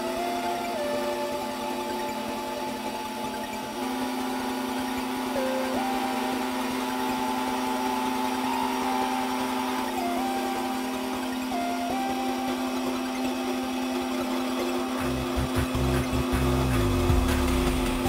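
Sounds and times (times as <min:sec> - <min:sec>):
milling spindle humming: 0:00.0 - 0:18.0
motor whine changing pitch: 0:00.0 - 0:18.0.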